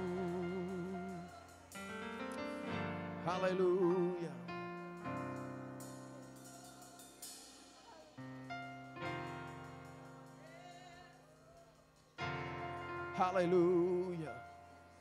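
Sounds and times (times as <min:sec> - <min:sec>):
keyboard playing slow chords: 0:00.0 - 0:11.1, 0:12.2 - 0:15.0.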